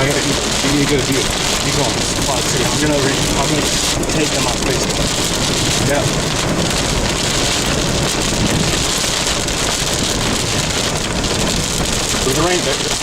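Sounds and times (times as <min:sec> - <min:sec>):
heavy rain on a car: 0:00.0 - 0:13.0
vehicle road noise: 0:00.0 - 0:13.0.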